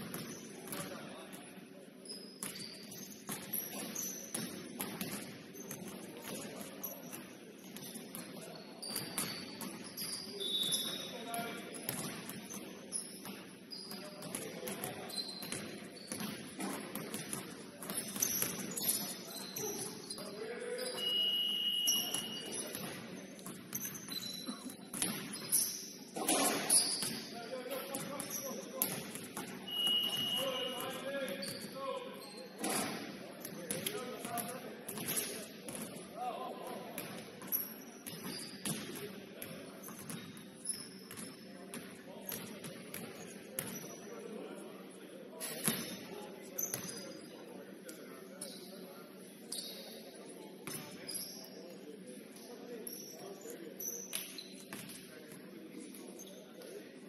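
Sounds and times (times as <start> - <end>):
sneakers squeaking on court: 0.0 - 36.0, 37.0 - 44.2, 45.4 - 47.4, 48.4 - 48.8, 49.4 - 50.0, 52.3 - 55.1, 55.9 - 56.7
murmur of voices: 0.4 - 57.0.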